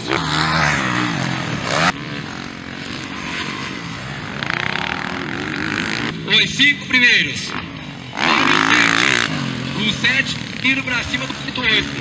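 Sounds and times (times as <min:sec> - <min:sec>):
dirt bike engines revving: 0:00.0 - 0:12.0
quieter engine running: 0:00.0 - 0:12.0.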